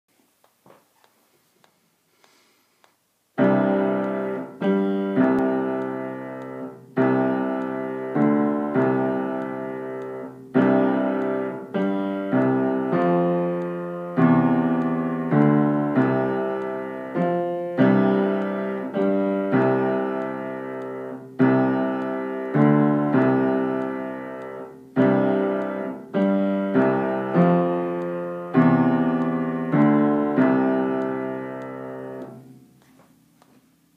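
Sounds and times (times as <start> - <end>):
slow piano chords: 3.4 - 33.4.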